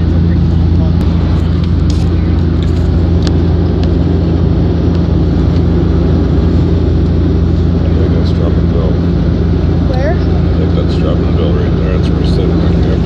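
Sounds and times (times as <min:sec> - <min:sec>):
airliner engine drone: 0:00.0 - 0:13.0
low hum: 0:00.0 - 0:13.0.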